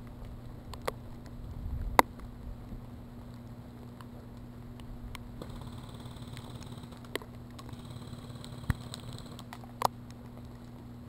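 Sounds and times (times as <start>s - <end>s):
rain pattering: 0.0s - 10.9s
steady low hum: 0.0s - 11.0s.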